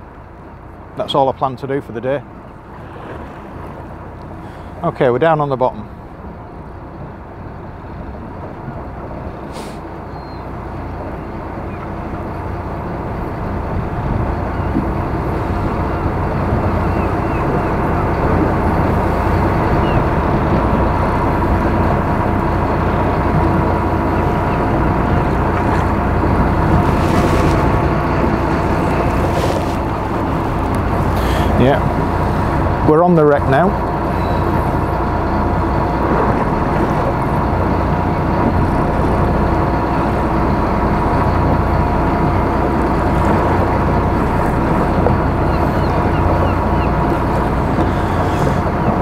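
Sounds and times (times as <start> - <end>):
boat engine running: 0.0 - 49.0
sea noise: 0.0 - 49.0
wind: 0.0 - 49.0.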